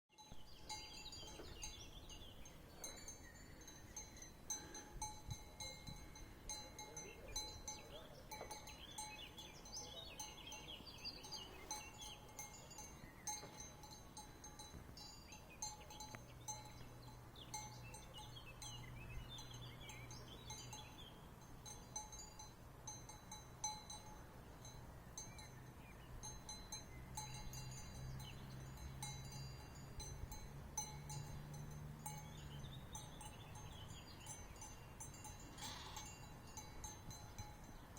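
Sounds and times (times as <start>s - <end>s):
sheep bells clinking: 0.2s - 37.9s.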